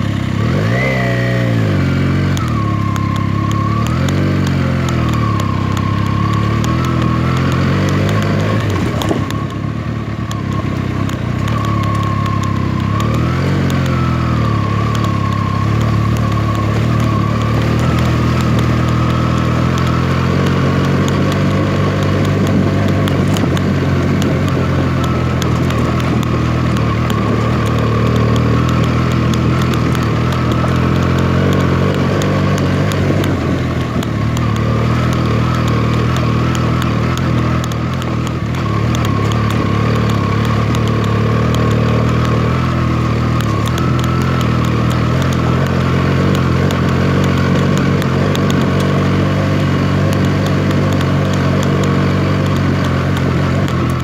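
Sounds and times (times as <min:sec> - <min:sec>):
motorcycle engine running steadily: 0:00.0 - 0:54.0.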